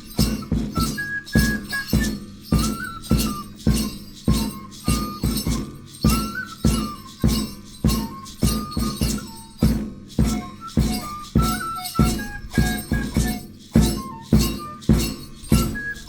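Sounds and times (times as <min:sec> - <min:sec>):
low beat with jingling: 0:00.0 - 0:16.0.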